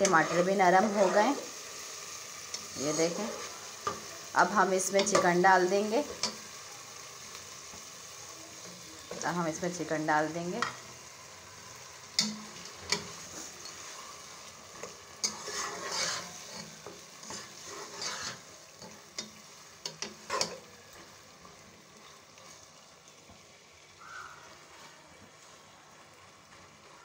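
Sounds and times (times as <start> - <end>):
chicken sizzling in pot: 0.0 - 27.0.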